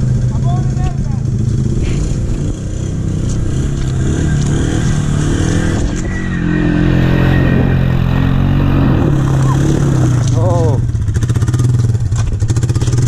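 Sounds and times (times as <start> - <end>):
quad bike engine revving: 0.0 - 13.0.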